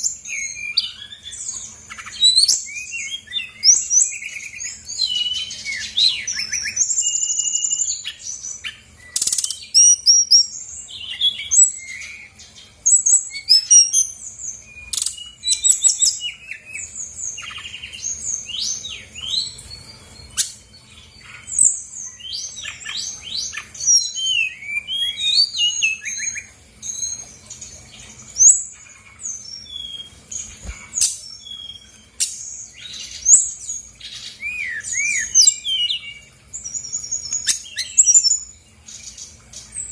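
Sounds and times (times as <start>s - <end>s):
bird singing chirps and trills: 0.0s - 39.9s
faint steady hum: 0.0s - 39.9s.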